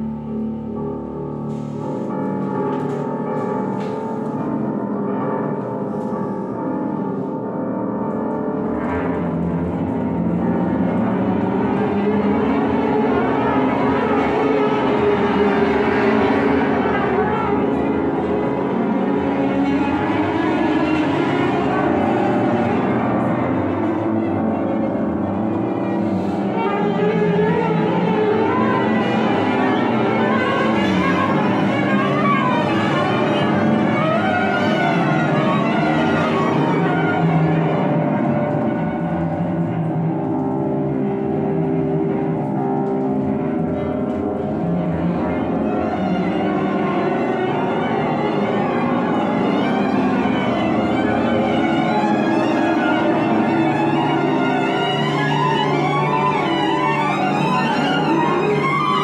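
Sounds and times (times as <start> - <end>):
cello: 0.0 - 59.0
piano: 0.0 - 59.0
violin: 0.0 - 59.0
bass clarinet: 8.8 - 59.0
flute: 10.6 - 59.0.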